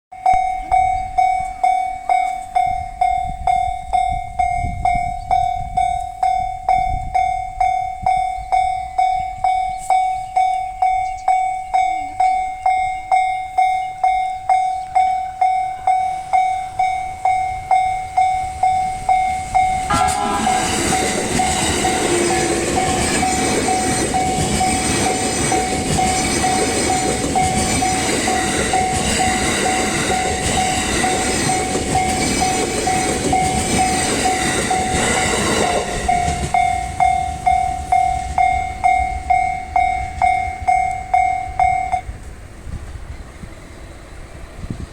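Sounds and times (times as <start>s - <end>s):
level crossing warning bell: 0.1s - 42.3s
electric train passing: 0.2s - 44.9s.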